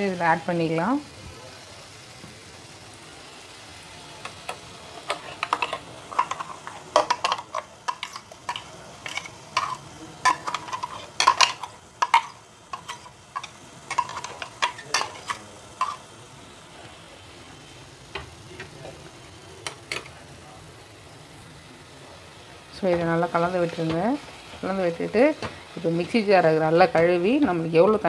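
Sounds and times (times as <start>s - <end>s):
faint pan sizzle: 0.0s - 28.0s.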